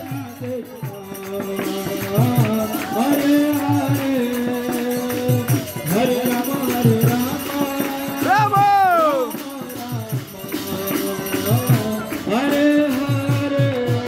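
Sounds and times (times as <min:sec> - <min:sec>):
hand clapping: 0:00.0 - 0:14.0
small percussion: 0:00.0 - 0:14.0
steady drum beat: 0:00.0 - 0:14.0
voices singing a chant: 0:00.0 - 0:14.0.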